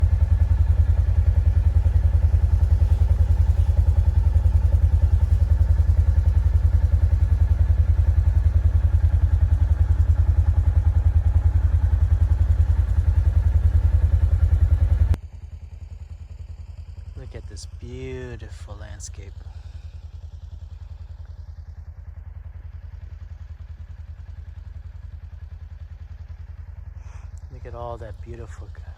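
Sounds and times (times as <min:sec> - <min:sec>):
motor vehicle rumbling: 0:00.0 - 0:15.2, 0:16.5 - 0:28.9.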